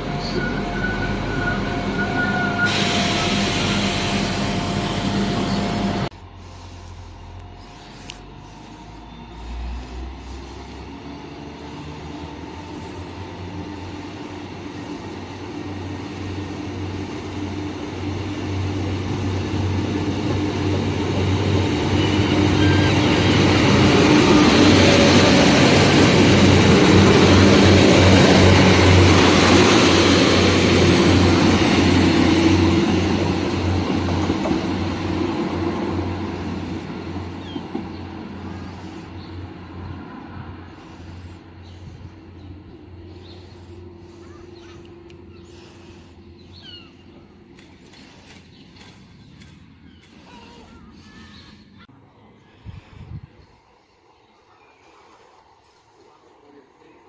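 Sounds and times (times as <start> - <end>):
diesel train approaching: 0.0 - 57.0
diesel train running: 0.0 - 57.0.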